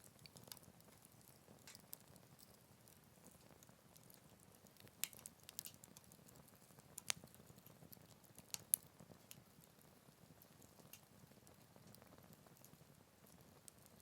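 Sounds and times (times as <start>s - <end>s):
campfire crackling and popping: 0.0s - 14.0s
campfire hiss: 0.0s - 14.0s.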